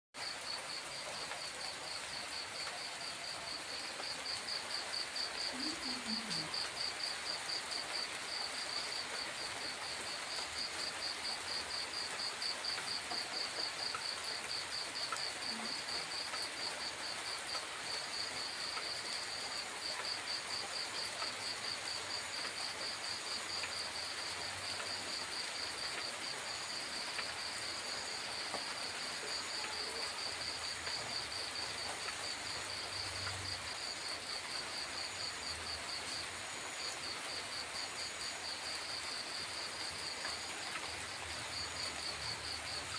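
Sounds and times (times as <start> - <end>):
light rain hiss: 0.2 - 42.9.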